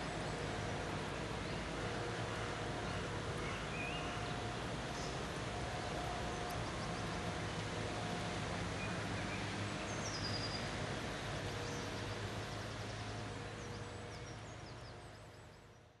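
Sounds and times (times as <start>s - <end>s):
city background hum: 0.0s - 16.0s.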